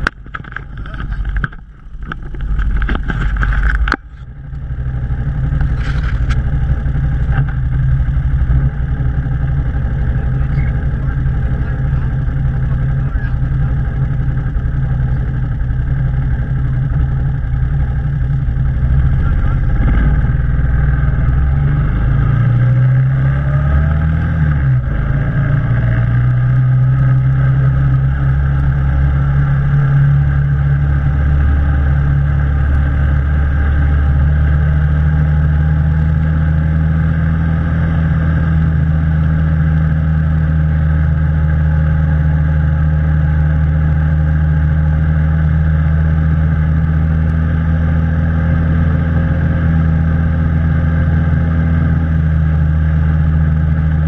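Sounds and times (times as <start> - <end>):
atv engine droning: 0.0 - 54.0.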